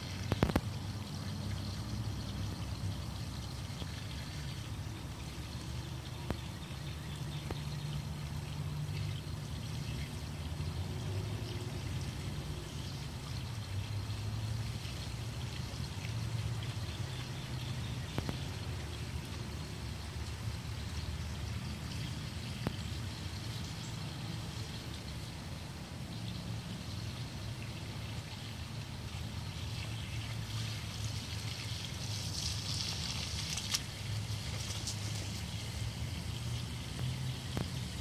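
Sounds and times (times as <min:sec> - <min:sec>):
water trickling onto grass: 0:00.0 - 0:38.0.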